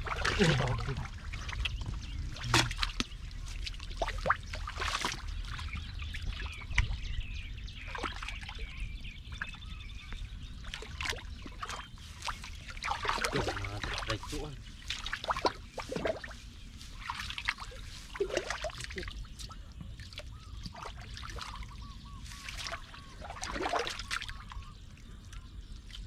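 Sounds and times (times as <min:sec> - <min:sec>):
steady low rumble: 0:00.0 - 0:23.5
water splashing and trickling: 0:00.0 - 0:26.0.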